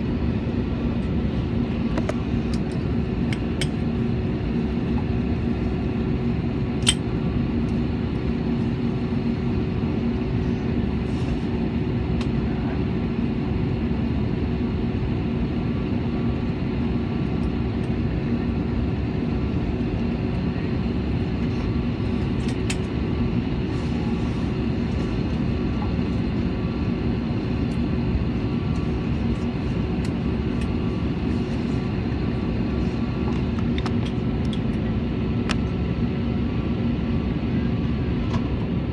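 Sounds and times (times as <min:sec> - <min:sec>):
airliner engines idling: 0:00.0 - 0:38.9
cabin air hum: 0:00.0 - 0:38.9.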